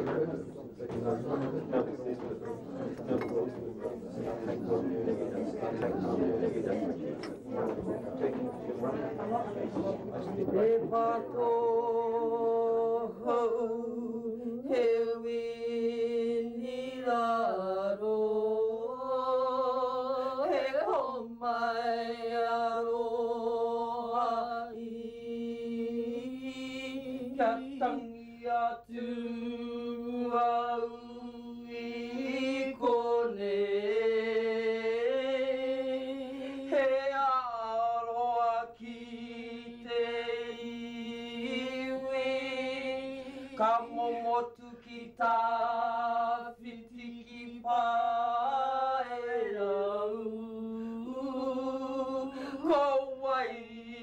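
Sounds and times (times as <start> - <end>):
women singing unaccompanied: 10.4 - 54.0.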